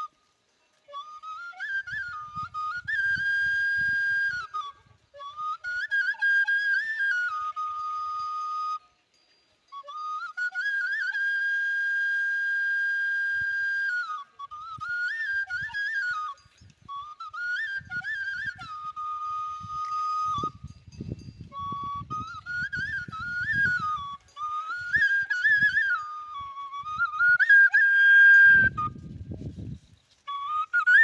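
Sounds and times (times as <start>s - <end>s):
solo flute melody: 0.0s - 31.0s.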